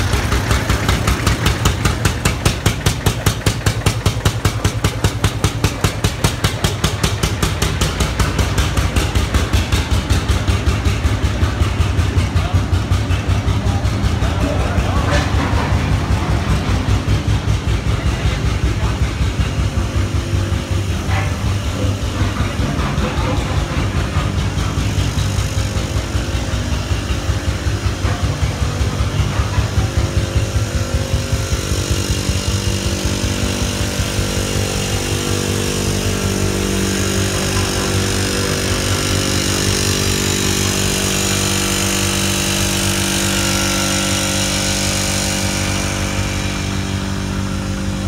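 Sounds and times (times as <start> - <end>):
tractor engine idling: 0.0 - 48.0.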